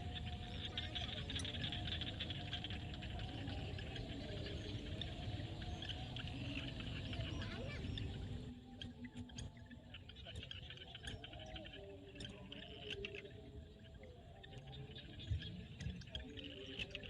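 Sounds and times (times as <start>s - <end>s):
frogs calling: 0.0s - 17.0s
insects: 0.0s - 17.0s.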